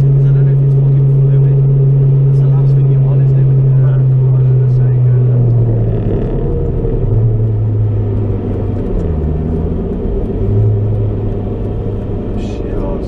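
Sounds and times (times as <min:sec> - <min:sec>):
car engine from inside cabin: 0:00.0 - 0:13.0
road noise: 0:00.0 - 0:13.0.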